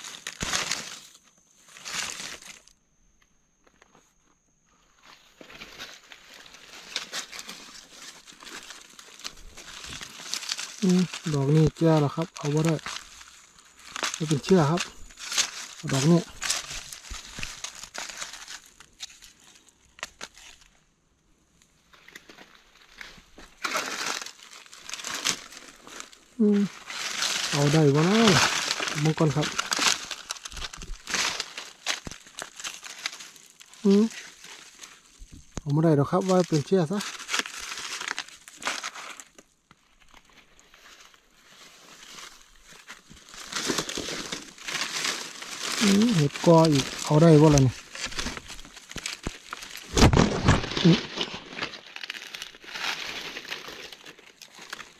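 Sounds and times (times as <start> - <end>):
dry leaves crackling and rustling: 0.0 - 2.8, 5.4 - 20.8, 21.9 - 54.9.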